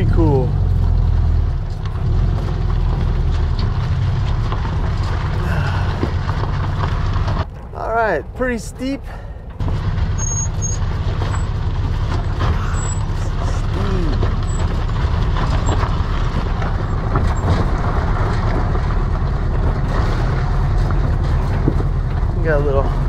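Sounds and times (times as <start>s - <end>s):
knocks and rattles of van: 0.0s - 23.0s
van engine rumbling uphill: 0.0s - 23.0s.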